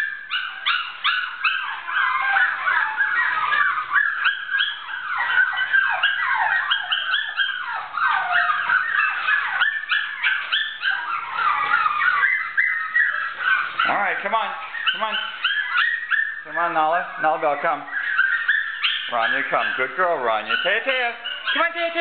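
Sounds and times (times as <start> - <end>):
dogs whining and yipping: 0.0 - 22.0.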